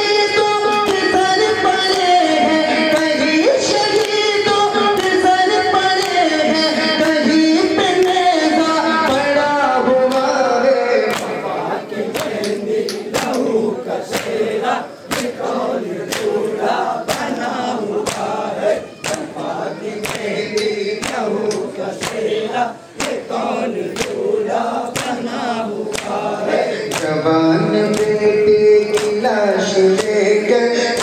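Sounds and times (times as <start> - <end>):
crowd of men chanting: 0.0 - 31.0
man chanting over loudspeaker: 0.0 - 31.0.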